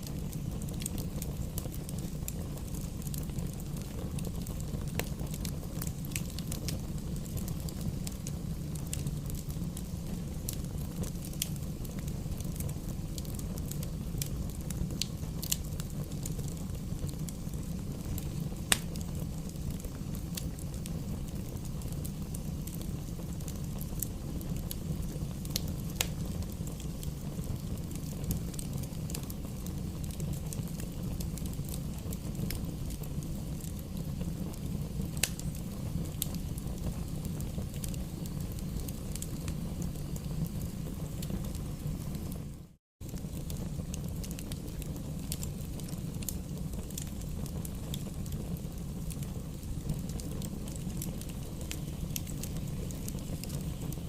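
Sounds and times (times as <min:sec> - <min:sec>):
bonfire burning: 0:00.0 - 0:54.0
fire crackles and pops: 0:00.0 - 0:54.0.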